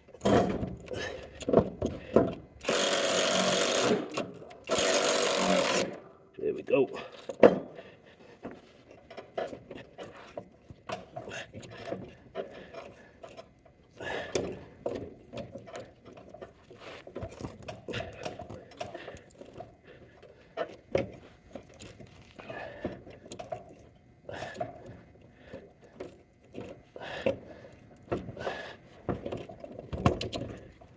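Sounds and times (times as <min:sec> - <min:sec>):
hands working a car jack: 0:00.1 - 0:06.0, 0:07.2 - 0:30.9.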